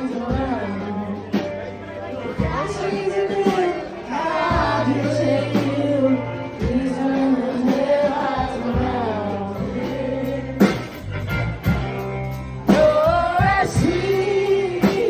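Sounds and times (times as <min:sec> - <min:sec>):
woman singing: 0:00.0 - 0:01.4, 0:02.4 - 0:10.8, 0:12.7 - 0:15.0
live band playing: 0:00.0 - 0:15.0
steady bass: 0:00.0 - 0:15.0.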